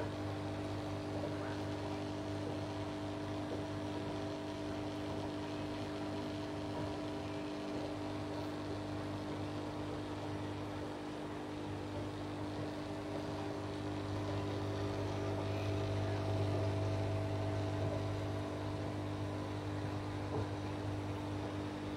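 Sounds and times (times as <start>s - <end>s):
aquarium pump humming: 0.0s - 21.9s.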